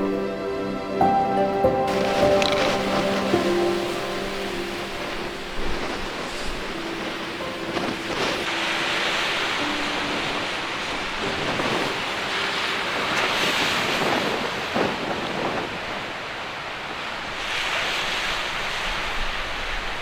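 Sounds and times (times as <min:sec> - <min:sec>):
storm waves crashing: 0:01.2 - 0:20.0
wind buffeting microphone: 0:01.7 - 0:20.0.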